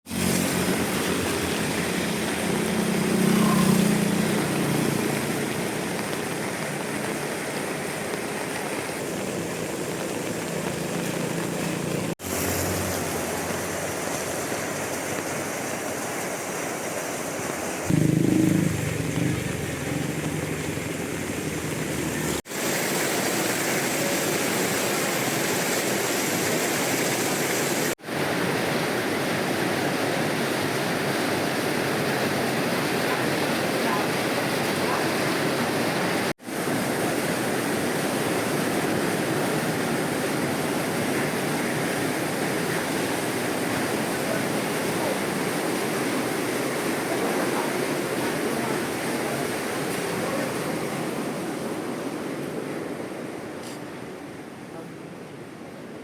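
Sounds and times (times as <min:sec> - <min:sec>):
rushing outdoor noise: 0:00.0 - 0:56.0.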